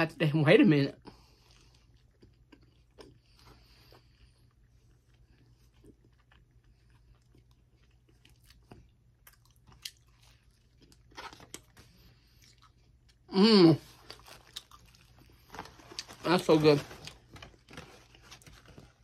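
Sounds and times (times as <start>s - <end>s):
person chewing soft biscuit: 1.0s - 16.2s.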